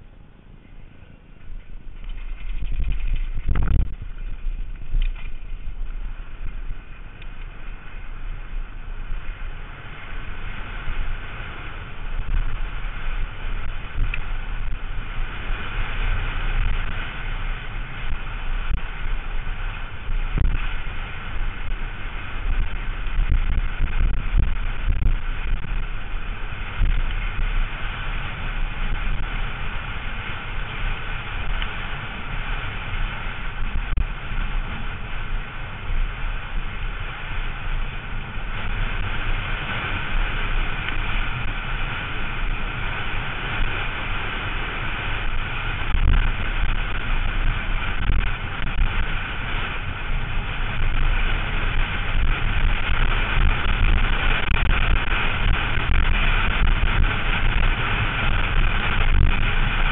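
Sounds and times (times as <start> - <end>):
wind buffeting microphone: 0.0 - 59.9
bike tyres rattling over gravel: 0.7 - 59.9.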